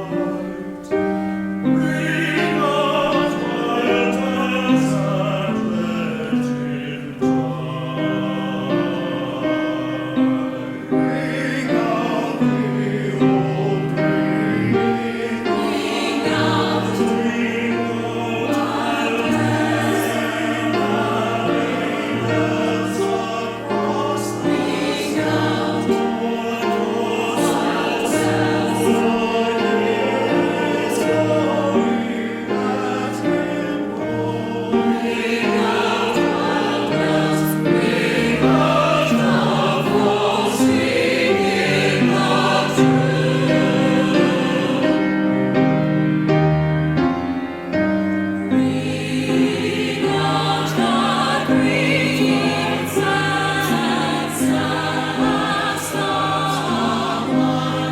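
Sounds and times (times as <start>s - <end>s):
church choir singing: 0.0s - 57.9s
musical accompaniment: 0.0s - 57.9s.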